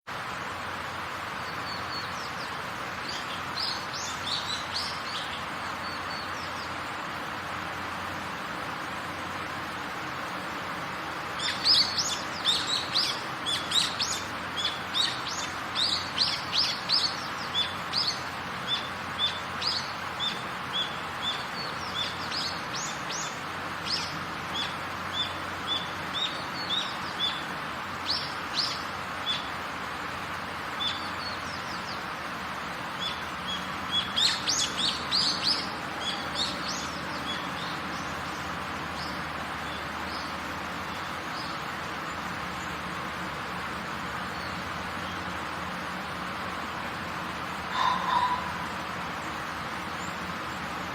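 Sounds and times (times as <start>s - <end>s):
rain hiss: 0.0s - 50.9s
birds chirping: 1.2s - 8.5s, 9.6s - 50.9s.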